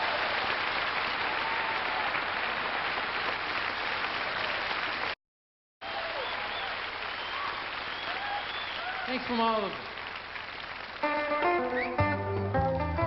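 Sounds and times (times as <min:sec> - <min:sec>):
crowd applauding: 0:00.0 - 0:05.2, 0:05.8 - 0:12.0.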